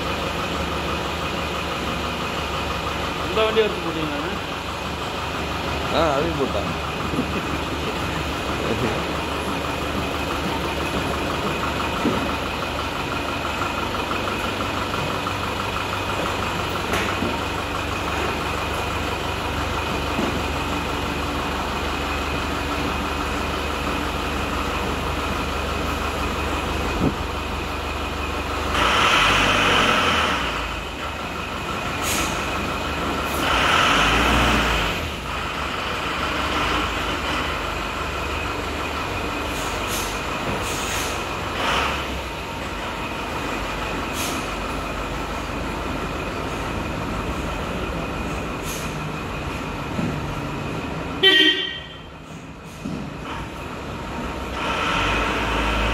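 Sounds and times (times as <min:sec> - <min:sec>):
diesel bus engine running: 0:00.0 - 0:55.9.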